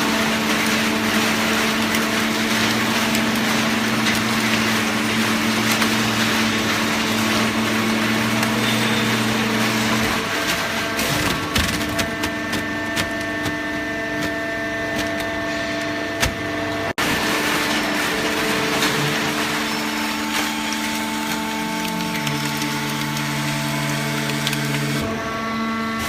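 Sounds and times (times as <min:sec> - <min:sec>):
hydraulic pump and motor hum: 0:00.0 - 0:26.0.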